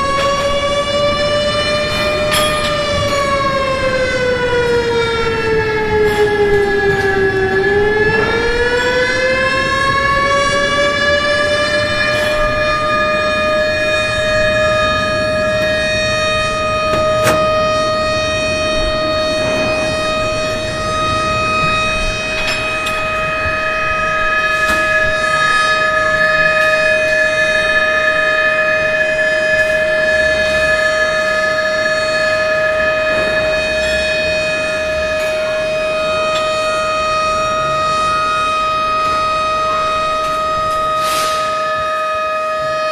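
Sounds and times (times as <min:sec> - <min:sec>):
siren-like wailing tone: 0:00.0 - 0:42.9.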